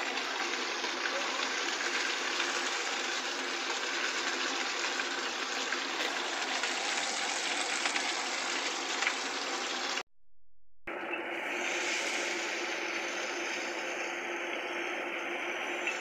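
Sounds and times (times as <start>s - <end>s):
chicken sizzling in oil: 0.0s - 10.1s, 11.0s - 16.0s.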